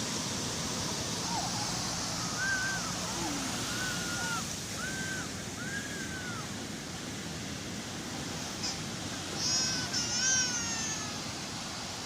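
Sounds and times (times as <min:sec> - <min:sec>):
sea waves washing onto shore: 0:00.0 - 0:12.0.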